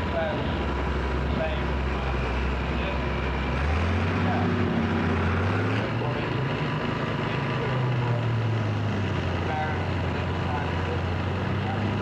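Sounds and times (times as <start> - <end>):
tractor engine running under load: 0.0 - 12.0.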